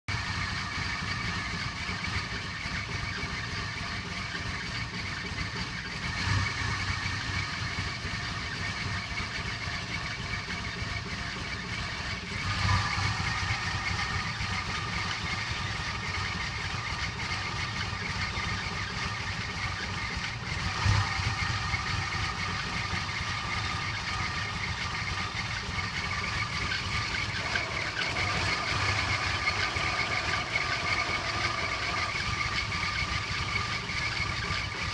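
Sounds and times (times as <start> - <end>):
car engine idling roughly: 0.0 - 34.9.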